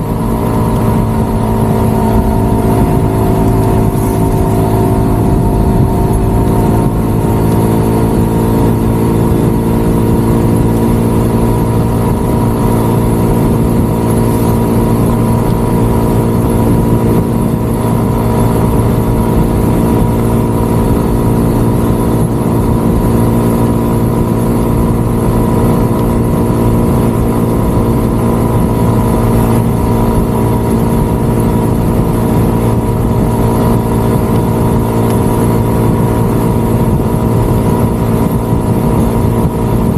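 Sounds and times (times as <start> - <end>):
small motorcycle engine running: 0.0 - 39.9
wind rumble on microphone: 0.0 - 39.9.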